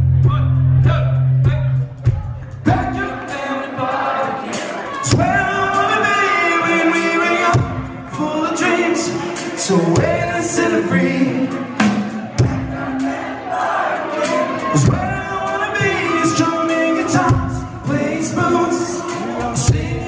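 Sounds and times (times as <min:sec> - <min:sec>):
drums: 0:00.0 - 0:20.0
backing voices singing: 0:02.6 - 0:20.0
man singing into microphone: 0:02.6 - 0:20.0.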